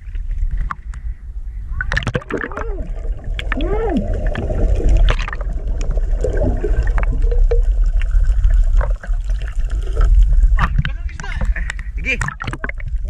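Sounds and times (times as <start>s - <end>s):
underwater rumble of water: 0.0s - 13.0s
air bubbles gurgling: 1.7s - 13.0s.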